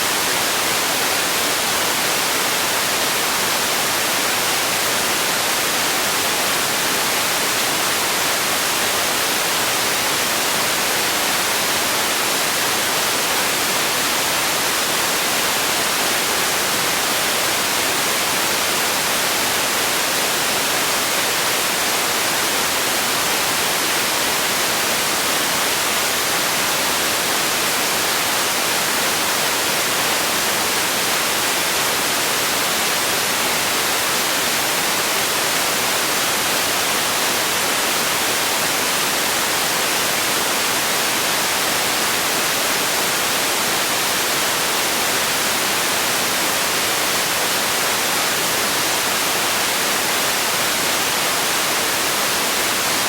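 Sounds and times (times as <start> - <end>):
steady relaxation noise hiss: 0.0 - 53.0.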